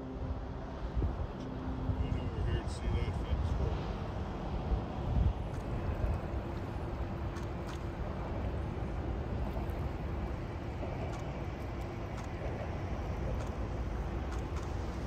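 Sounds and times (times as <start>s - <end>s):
ship engine low rumble: 0.0s - 15.0s.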